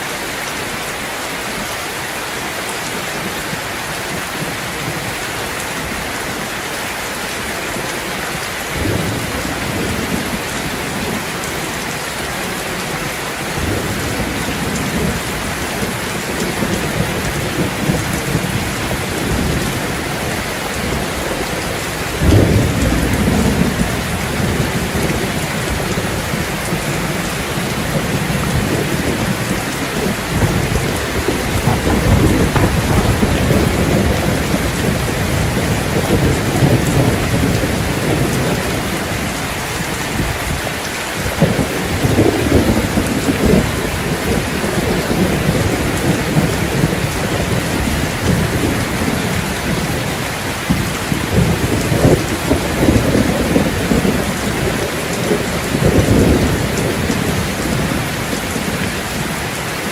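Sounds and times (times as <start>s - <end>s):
heavy rain: 0.0s - 59.9s
low rolling thunder: 8.8s - 11.6s, 13.5s - 40.6s, 41.2s - 59.3s.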